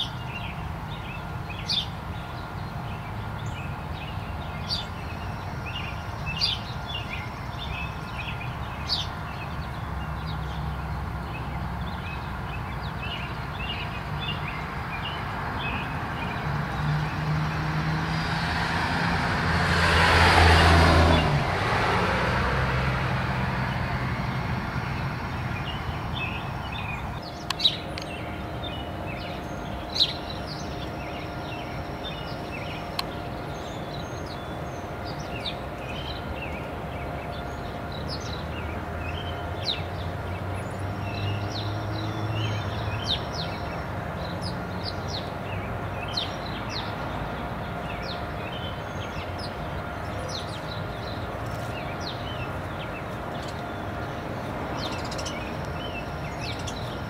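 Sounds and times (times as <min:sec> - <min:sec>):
motor vehicle passing: 0:00.0 - 0:57.0
steady low hum: 0:00.0 - 0:57.0.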